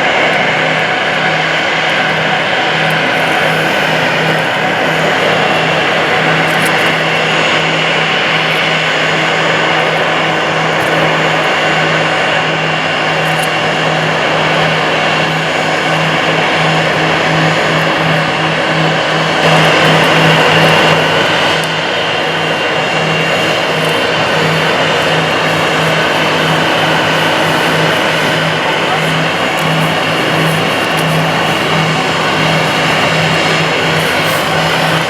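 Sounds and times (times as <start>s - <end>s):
aircraft engines running loudly: 0.0s - 35.0s.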